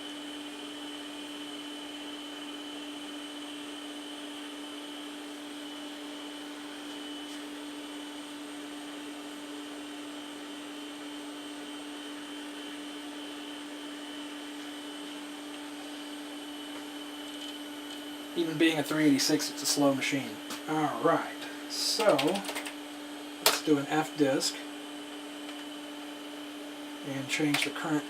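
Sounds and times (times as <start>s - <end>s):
computer fan hum: 0.0s - 28.0s
high whine of hard drives: 0.0s - 28.0s.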